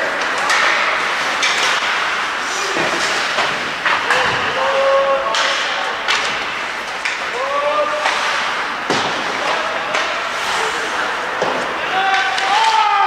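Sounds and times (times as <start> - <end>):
hockey sticks and puck clacking: 0.0 - 13.0
skates scraping ice: 0.0 - 13.0.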